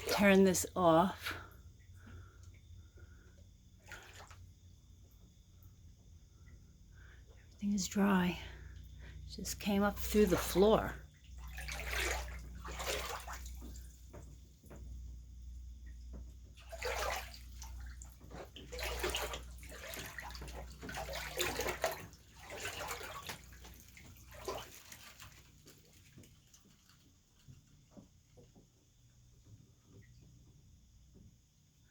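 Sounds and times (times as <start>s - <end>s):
water sloshing and splashing: 0.0s - 31.3s
low steady hum: 0.0s - 31.9s.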